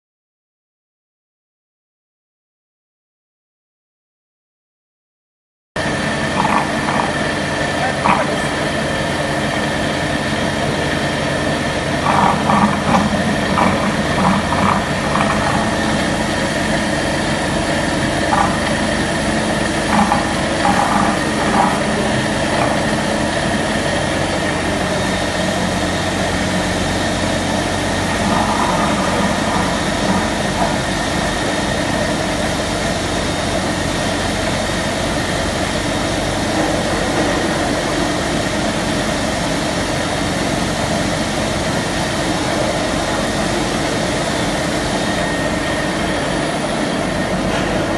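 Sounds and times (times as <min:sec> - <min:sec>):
machinery drone: 0:05.8 - 0:47.9.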